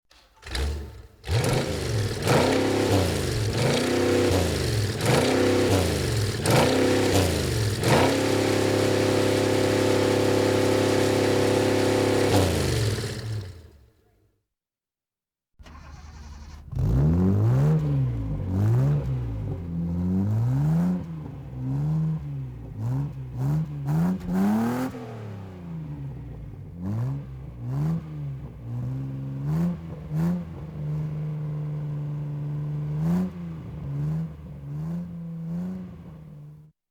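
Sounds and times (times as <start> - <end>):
sports car engine revving: 0.4 - 13.7, 16.6 - 36.6.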